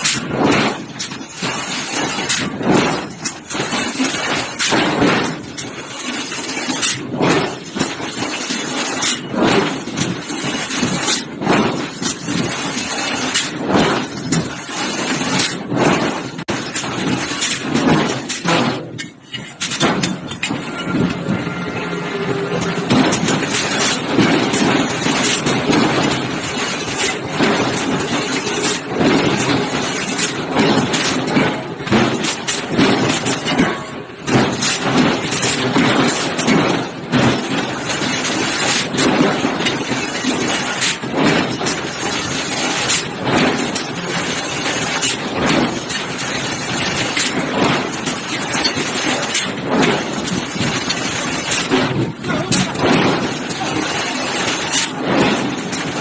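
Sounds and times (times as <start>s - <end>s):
forge shop noise: 0.0s - 56.0s
heavy forging thuds: 0.0s - 56.0s
machinery rumbling: 0.0s - 56.0s
sharp metal knocks and clanks: 0.0s - 56.0s.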